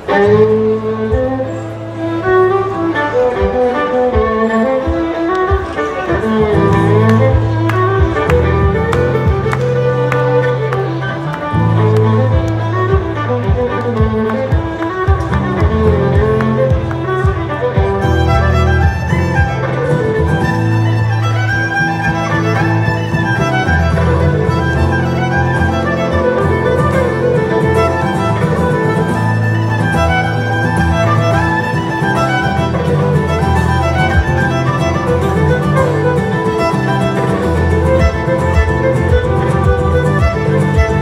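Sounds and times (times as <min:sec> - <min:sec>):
violin-led instrumental music: 0:00.0 - 0:41.0.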